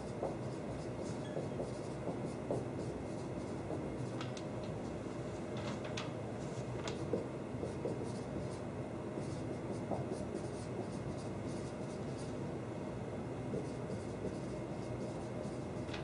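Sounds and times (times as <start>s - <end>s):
marker writing on whiteboard: 0.0s - 5.0s, 6.6s - 12.4s, 13.4s - 16.0s
steady background hum: 0.0s - 16.0s.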